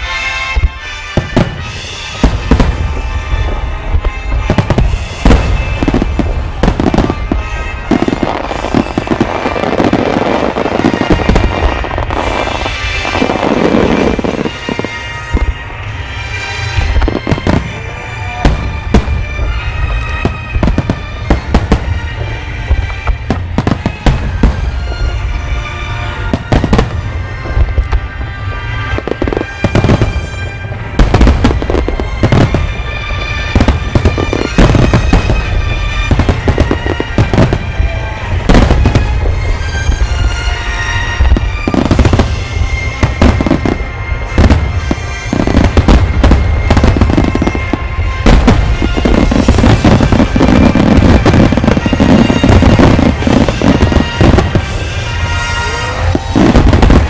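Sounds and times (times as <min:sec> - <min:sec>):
fireworks booming and crackling: 0:00.0 - 0:57.0
music playing: 0:00.0 - 0:57.0.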